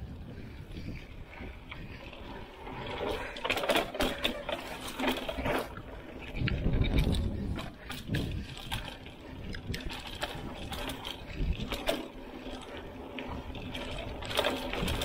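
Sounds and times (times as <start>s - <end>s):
bike rattling over bumps: 0.0s - 15.0s
tyres crunching over dirt: 1.2s - 15.0s.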